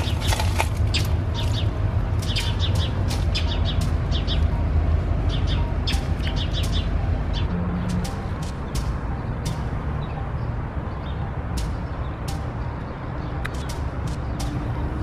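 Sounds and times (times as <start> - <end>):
small birds chirping: 0.0 - 4.6, 5.2 - 15.0
steady low rumble: 0.0 - 15.0.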